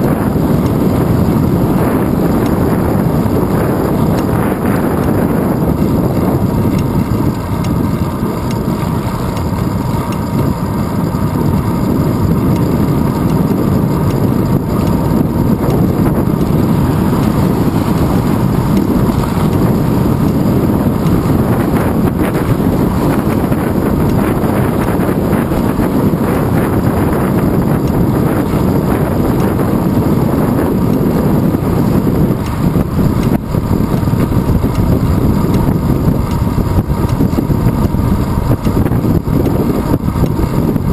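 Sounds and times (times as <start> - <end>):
bicycle road rumble: 0.0 - 40.9
wind rush: 0.0 - 40.9.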